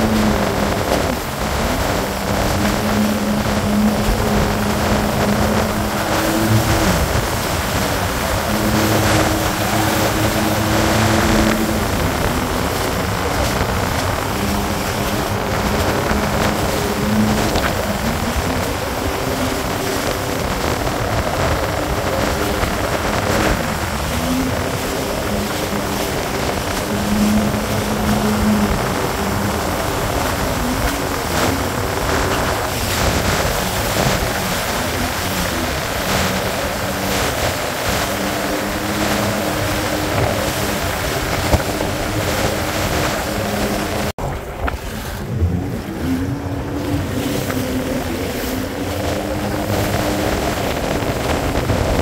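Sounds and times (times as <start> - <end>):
jet ski engine running: 0.0 - 52.0
rushing wind and water: 0.0 - 52.0.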